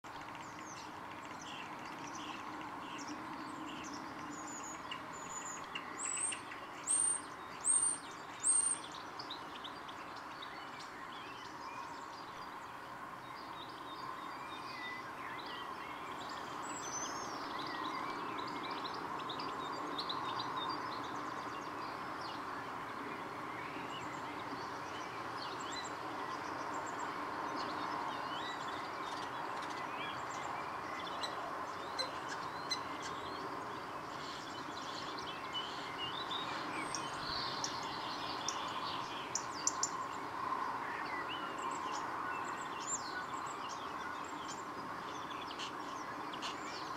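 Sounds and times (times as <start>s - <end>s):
small birds chirping: 0.0s - 46.9s
steady background noise: 0.1s - 46.9s.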